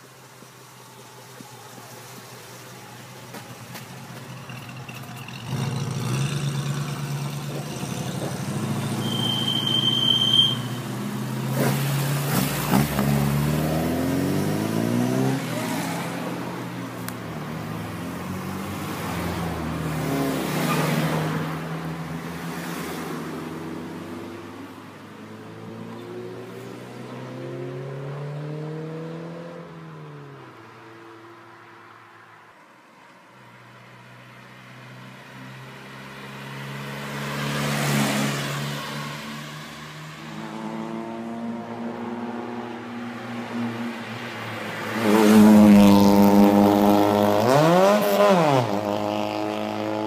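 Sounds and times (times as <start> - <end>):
cars driving past revving: 1.3 - 32.2, 33.5 - 50.0.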